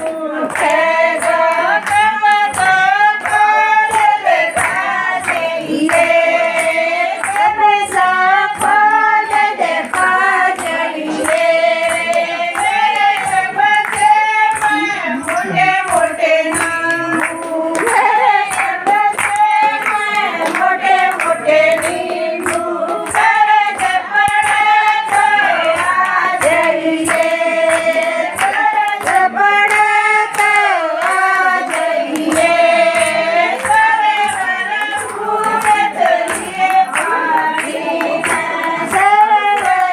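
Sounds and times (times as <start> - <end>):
hand claps: 0.0 - 39.9
women singing folk song: 0.0 - 39.9.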